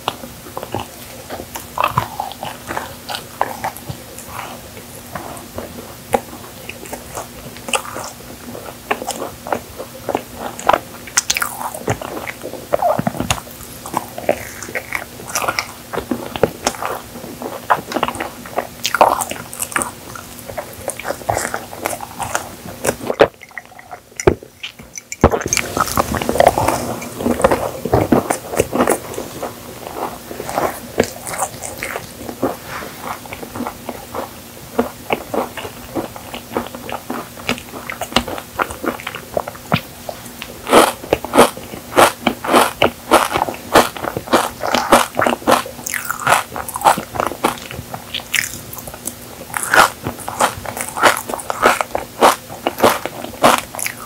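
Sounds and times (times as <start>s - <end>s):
chewing crunchy cookie: 0.0s - 54.0s.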